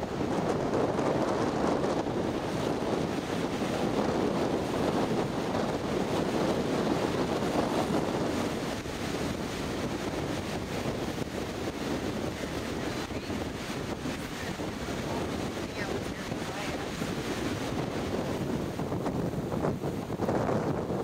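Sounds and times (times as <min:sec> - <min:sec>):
waves breaking on shore: 0:00.0 - 0:21.0
wind buffeting microphone: 0:00.0 - 0:21.0.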